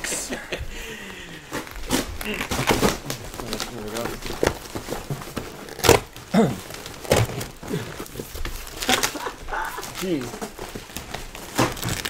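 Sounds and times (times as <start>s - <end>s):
bubble wrap rustling: 1.3s - 12.0s
cardboard rustling: 1.3s - 12.0s.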